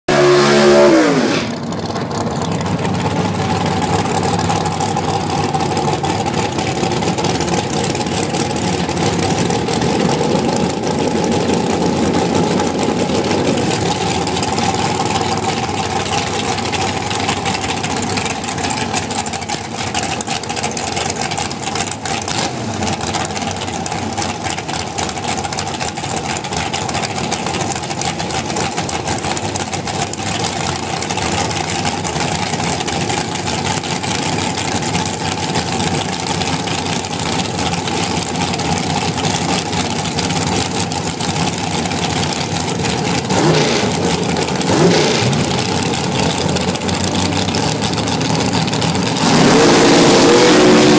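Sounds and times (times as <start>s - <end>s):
dragster engine idling: 0.2s - 50.9s.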